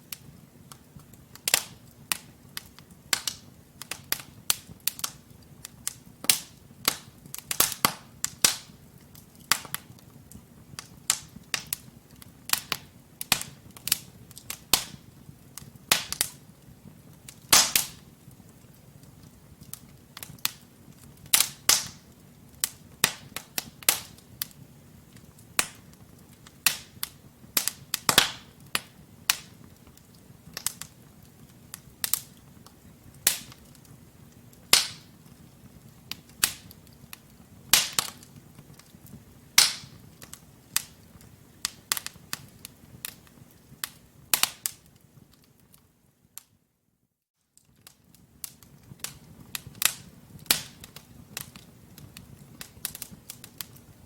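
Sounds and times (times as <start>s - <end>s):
low rumble of flame: 0.0s - 46.5s, 47.6s - 54.0s
wood fire crackling: 0.0s - 46.6s, 47.4s - 54.0s.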